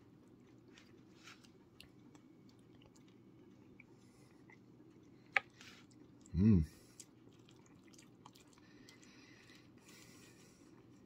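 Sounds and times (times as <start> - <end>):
faint chewing: 0.0 - 11.0
low room hum: 0.0 - 11.0.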